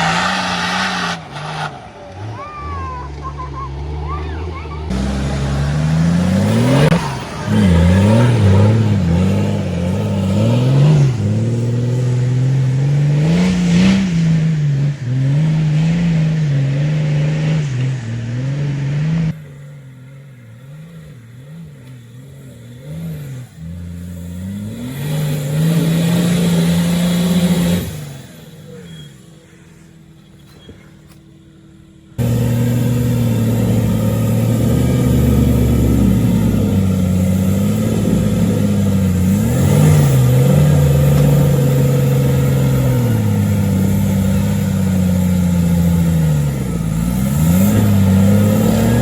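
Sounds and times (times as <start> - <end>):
engine revving: 0.0 - 30.9, 32.0 - 49.0.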